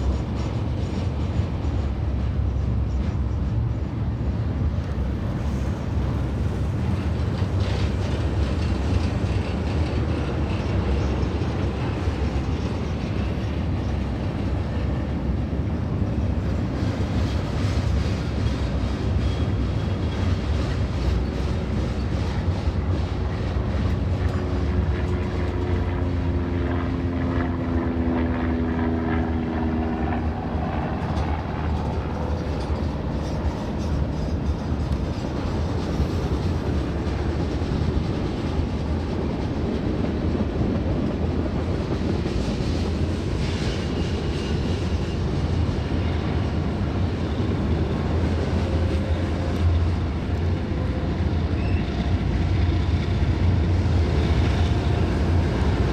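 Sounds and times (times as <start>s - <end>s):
freight train rumble: 0.0s - 55.9s
locomotive engine drone: 0.0s - 55.9s.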